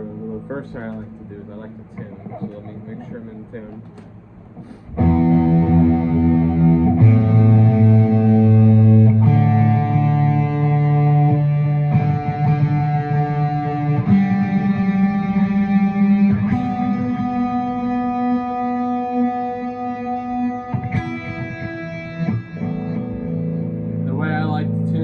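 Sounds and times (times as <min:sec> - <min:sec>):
electric guitar strings plucked: 0:00.0 - 0:25.0.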